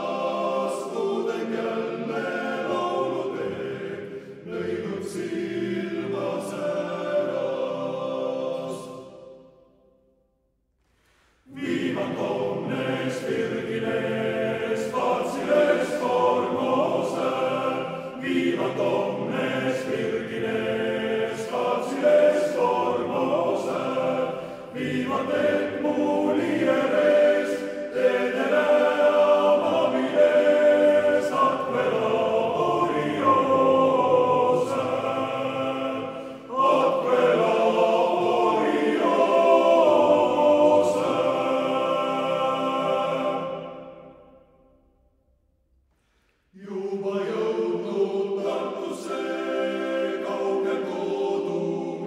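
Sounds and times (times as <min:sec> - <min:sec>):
men's choir singing: 0:00.0 - 0:09.6, 0:11.5 - 0:44.3, 0:46.6 - 0:52.0.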